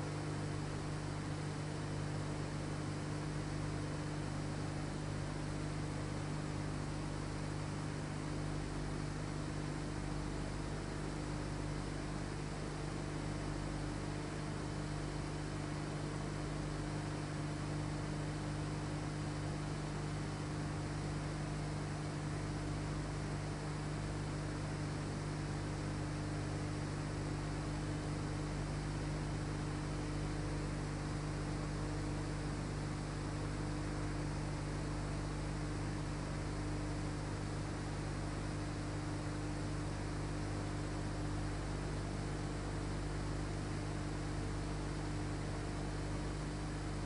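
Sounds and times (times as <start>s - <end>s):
low electrical hum: 0.0s - 47.0s.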